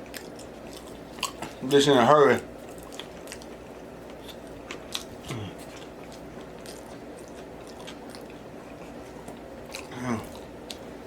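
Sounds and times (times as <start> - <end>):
person chewing food: 0.0 - 1.7, 2.6 - 11.0.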